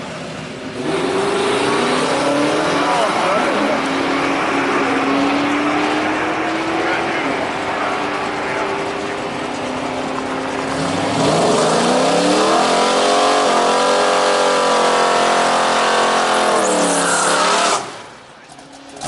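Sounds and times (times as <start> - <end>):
drag racing engine revving: 0.0 - 19.0.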